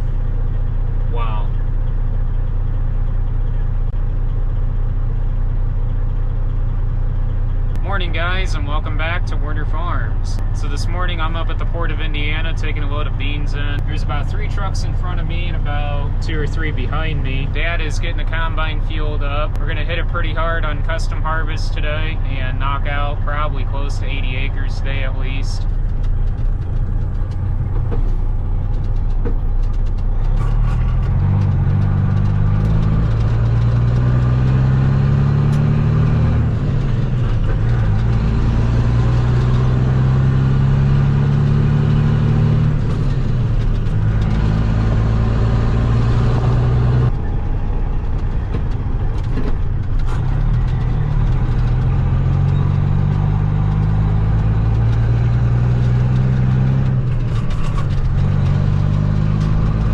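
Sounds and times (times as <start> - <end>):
truck engine shifting gears: 0.0 - 59.9.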